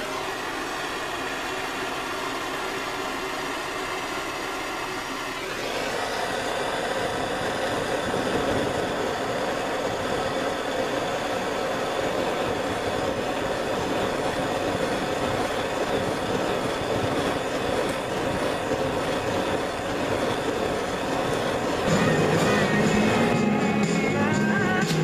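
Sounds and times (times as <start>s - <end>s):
gas torch flame hissing: 0.0s - 25.0s.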